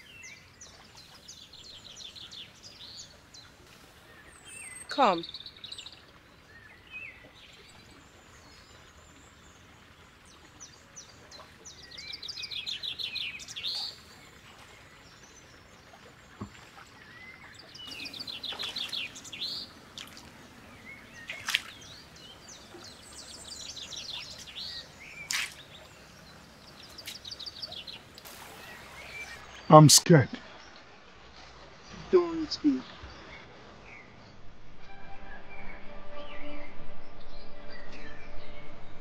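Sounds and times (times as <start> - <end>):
birds trilling chirps: 0.0 - 34.4
faint outdoor background: 0.0 - 39.0.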